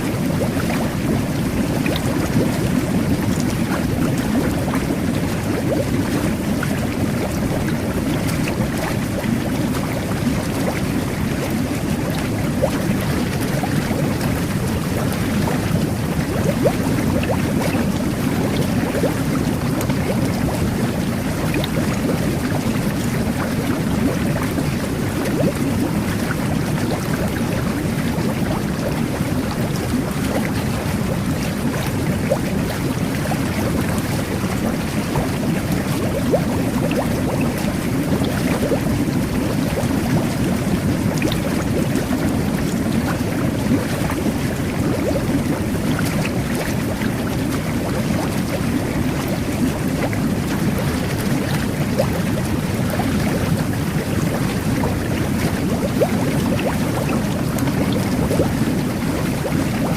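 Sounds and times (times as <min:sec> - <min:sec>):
jet bath bubbling water: 0:00.0 - 0:59.9.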